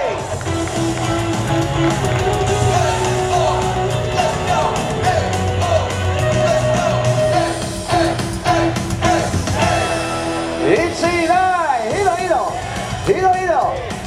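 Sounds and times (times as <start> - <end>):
crowd yelling along: 0.0 - 14.0
upbeat cheer song over loudspeakers: 0.0 - 14.0.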